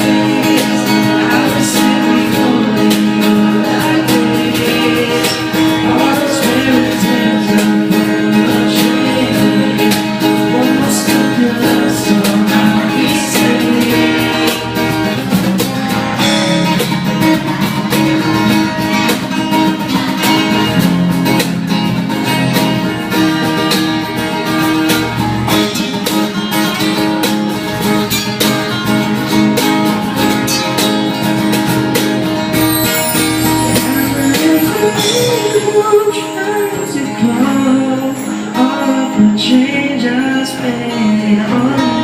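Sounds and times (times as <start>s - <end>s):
acoustic guitar playing: 0.0s - 42.0s.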